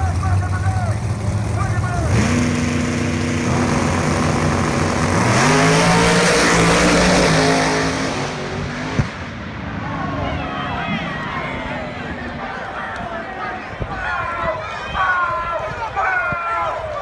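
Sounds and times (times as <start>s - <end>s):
drag racing engines revving: 0.0s - 13.8s.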